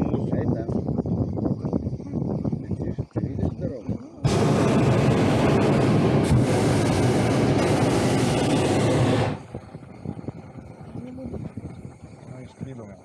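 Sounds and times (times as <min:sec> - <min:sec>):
propane burner blast: 0:00.0 - 0:13.0.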